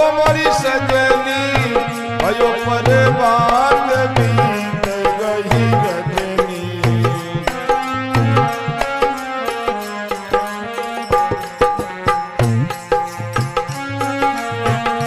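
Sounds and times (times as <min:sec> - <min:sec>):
devotional melody with sliding notes: 0:00.0 - 0:15.0
hand drum beating: 0:00.0 - 0:15.0.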